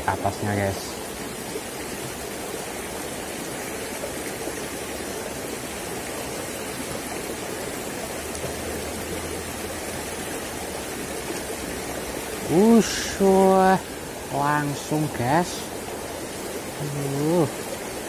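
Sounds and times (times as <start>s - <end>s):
river water rippling over rocks: 0.0s - 18.0s.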